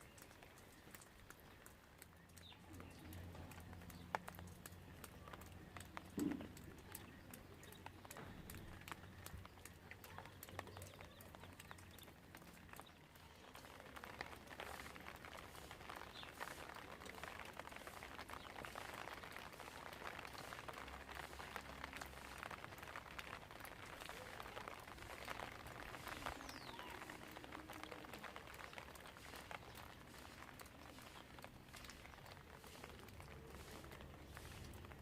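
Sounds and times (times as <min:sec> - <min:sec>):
rain patter: 0:00.0 - 0:35.0.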